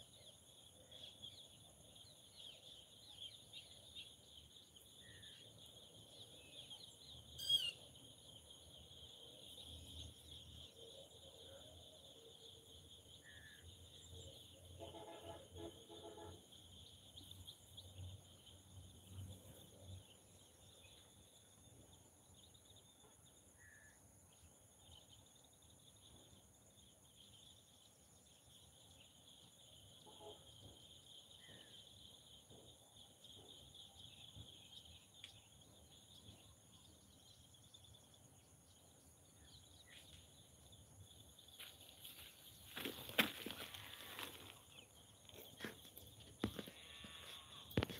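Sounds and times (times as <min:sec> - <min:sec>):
insect chorus trilling: 0:00.0 - 0:47.9.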